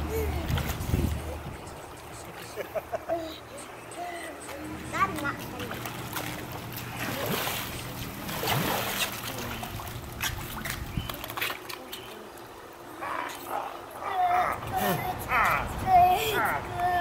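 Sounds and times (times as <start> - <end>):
pool water splashing and trickling: 0.0 - 17.0.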